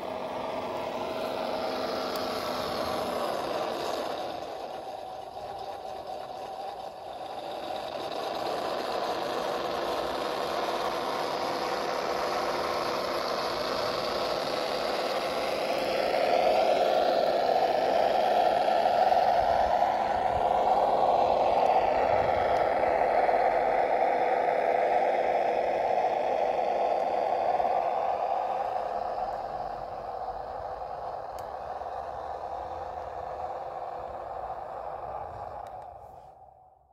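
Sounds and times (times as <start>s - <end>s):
electric motor and gear whine: 0.0s - 36.9s
simulated truck engine through speakers: 0.0s - 36.9s.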